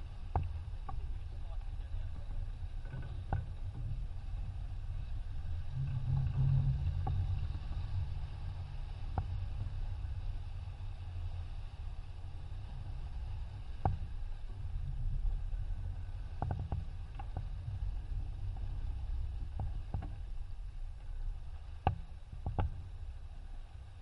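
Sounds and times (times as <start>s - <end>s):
wind and water rushing: 0.0s - 24.0s.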